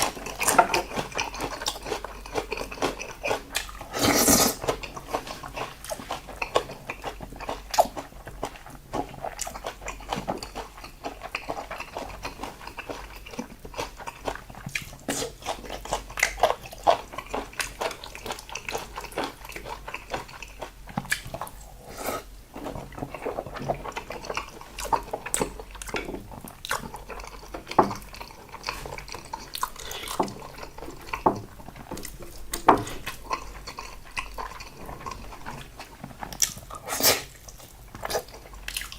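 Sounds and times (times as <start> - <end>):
wet chewing and smacking: 0.0 - 21.8, 22.5 - 38.9.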